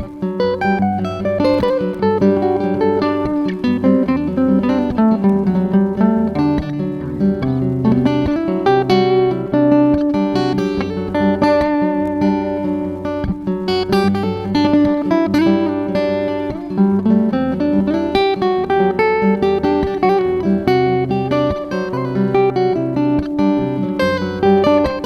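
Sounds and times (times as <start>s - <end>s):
fingerstyle acoustic guitar: 0.0s - 25.0s
looped guitar bass notes: 0.0s - 25.0s.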